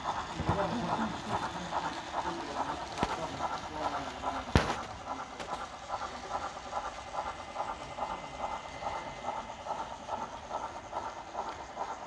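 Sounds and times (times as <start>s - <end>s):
steam locomotive chuffing: 0.0s - 12.0s.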